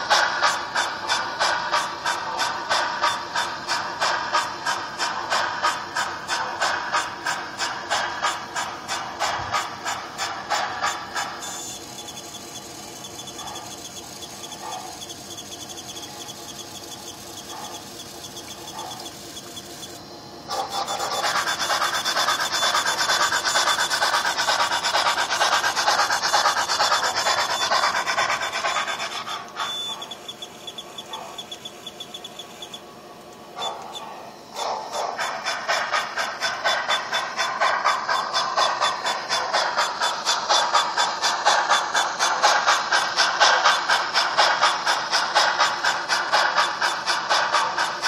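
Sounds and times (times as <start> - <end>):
model train mechanical rasp: 0.0 - 48.0
second model locomotive running: 0.0 - 48.0.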